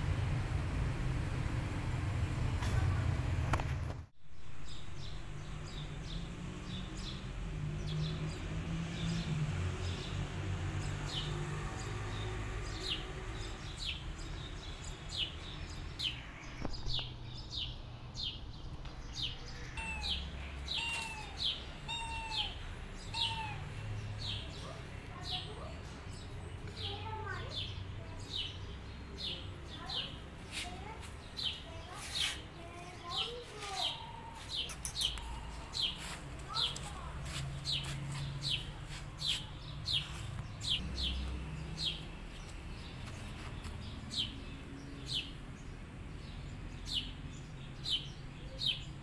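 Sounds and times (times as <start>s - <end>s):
small birds chirping: 4.3s - 49.0s.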